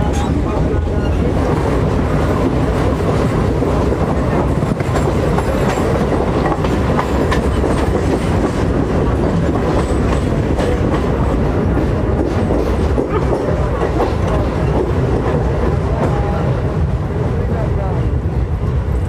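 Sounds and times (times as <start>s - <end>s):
wheels clattering over rail joints: 0.0s - 16.3s
train wheels rumbling on track: 0.0s - 19.0s.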